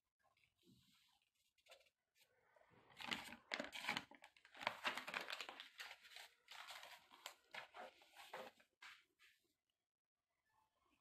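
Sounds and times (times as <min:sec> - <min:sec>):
faint rustling and crinkling: 0:00.2 - 0:09.6.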